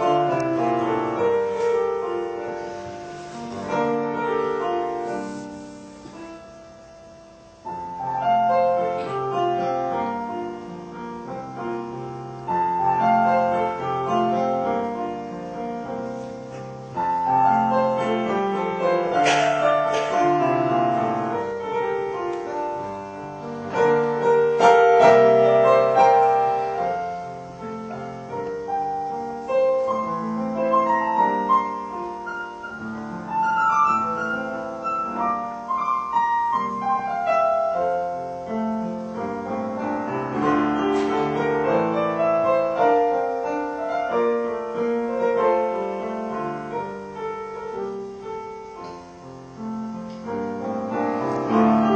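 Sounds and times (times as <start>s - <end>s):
solo piano piece: 0.0s - 51.9s.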